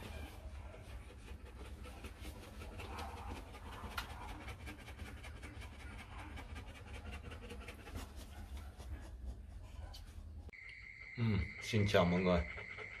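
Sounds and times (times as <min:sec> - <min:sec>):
dog panting rapidly: 0:00.0 - 0:10.5, 0:12.2 - 0:13.0.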